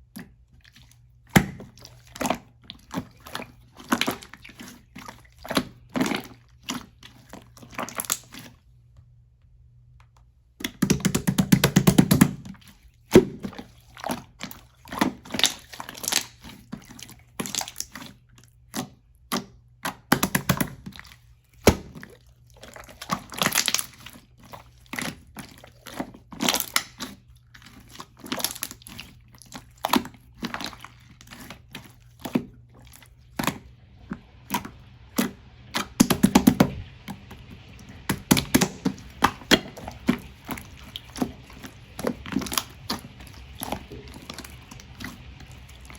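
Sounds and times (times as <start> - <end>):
slime squelching by hand: 0.0 - 8.8, 10.5 - 45.9.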